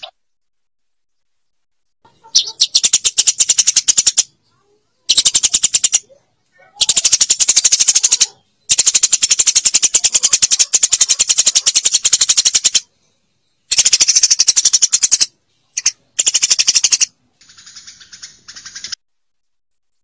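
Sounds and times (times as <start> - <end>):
sparrow chattering call: 2.1 - 12.9, 13.7 - 19.0.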